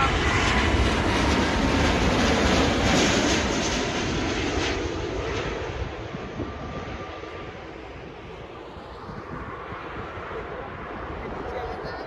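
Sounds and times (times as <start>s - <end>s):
jet airliner passing low: 0.0s - 12.0s.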